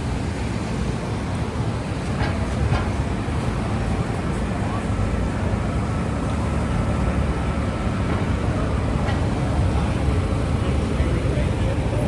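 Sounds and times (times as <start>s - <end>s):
low rumble of passing vehicles: 0.0s - 12.0s.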